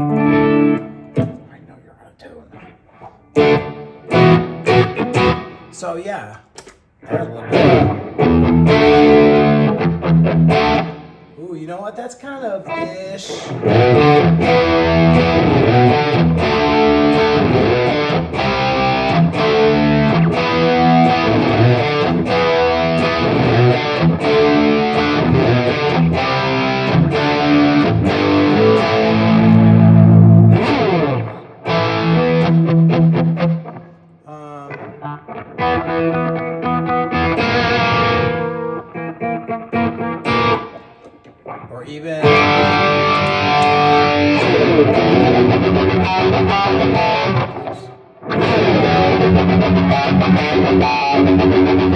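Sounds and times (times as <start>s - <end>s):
distorted electric guitar: 0.0s - 1.6s, 2.5s - 5.8s, 6.6s - 11.4s, 12.6s - 51.9s.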